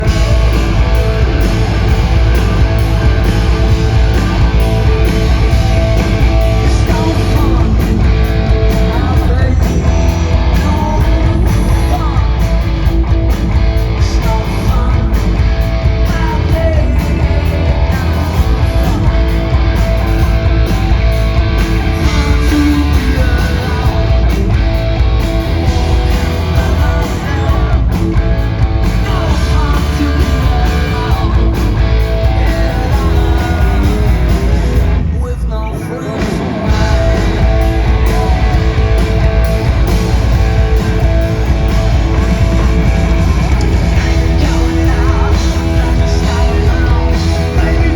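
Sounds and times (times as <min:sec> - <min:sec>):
bass guitar: 0:00.0 - 0:47.9
drums: 0:00.0 - 0:47.9
electric guitar: 0:00.0 - 0:47.9.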